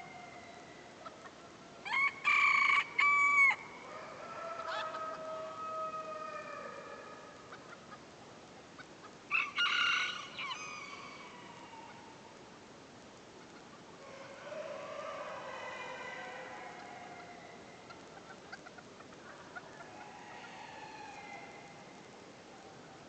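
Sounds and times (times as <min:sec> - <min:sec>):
roosters crowing: 0:00.0 - 0:07.7, 0:09.3 - 0:12.2, 0:14.0 - 0:22.1.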